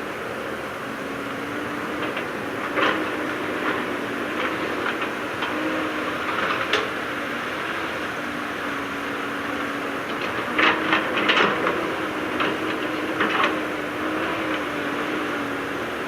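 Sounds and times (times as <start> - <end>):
heavy machinery engine running: 0.0 - 16.0.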